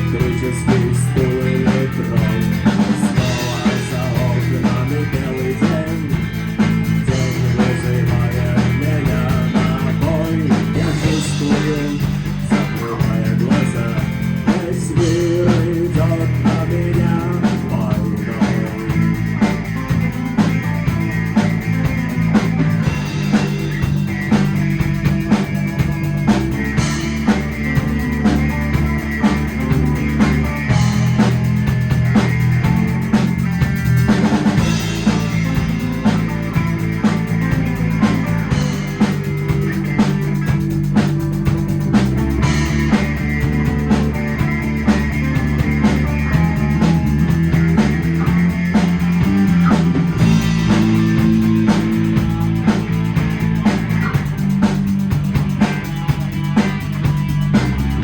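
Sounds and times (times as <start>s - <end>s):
bass line: 0.0s - 58.0s
drum kit beat: 0.0s - 58.0s
rock guitar: 0.0s - 58.0s.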